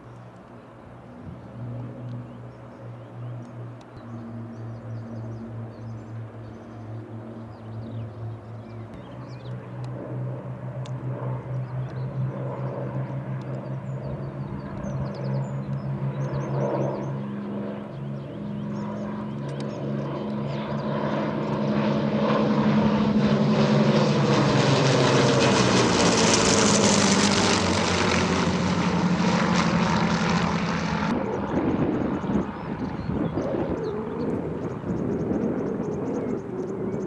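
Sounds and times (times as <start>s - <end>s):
propeller aircraft engine drone: 0.0s - 37.0s.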